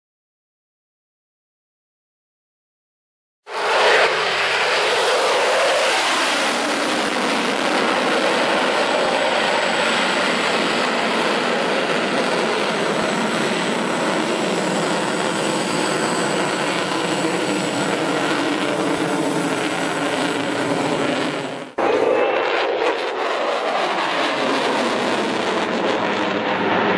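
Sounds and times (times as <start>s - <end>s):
fighter jet engines roaring: 3.5s - 26.9s.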